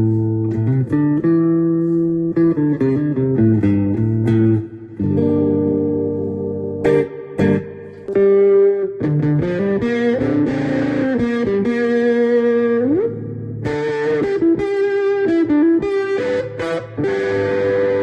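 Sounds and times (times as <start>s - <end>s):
electric guitar notes: 0.0s - 18.0s.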